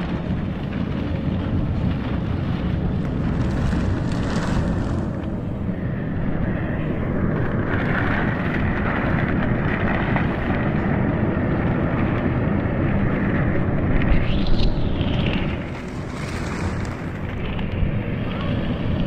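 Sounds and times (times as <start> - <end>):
machinery low rumble: 0.0 - 19.0.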